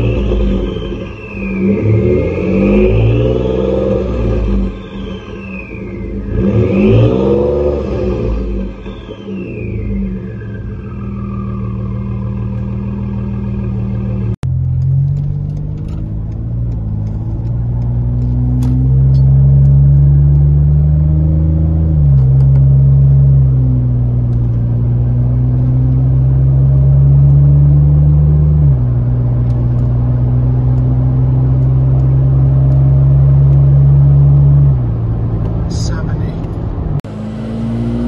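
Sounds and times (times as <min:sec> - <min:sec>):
car exhaust drone accelerating: 0:00.0 - 0:38.0.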